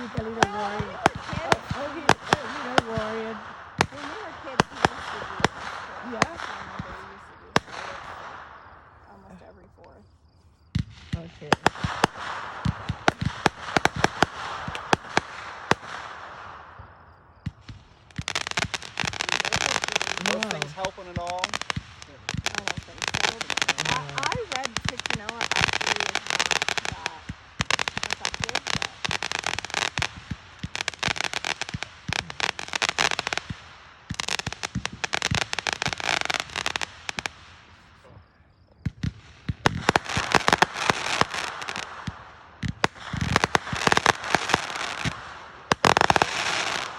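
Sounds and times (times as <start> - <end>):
fireworks bangs: 0.0 - 46.9
fireworks hissing crackle: 0.0 - 46.9.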